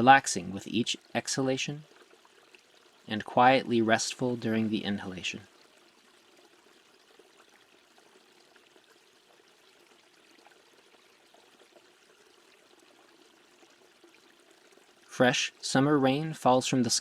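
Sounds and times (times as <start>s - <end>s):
faint flowing water: 0.0s - 17.0s.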